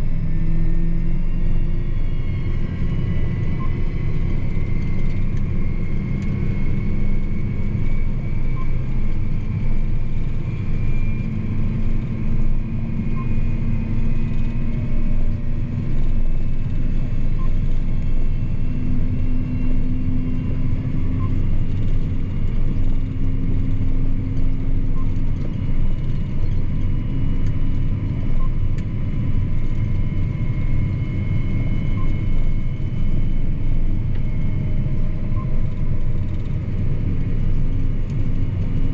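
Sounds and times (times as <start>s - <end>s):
tractor engine drone: 0.0s - 38.9s.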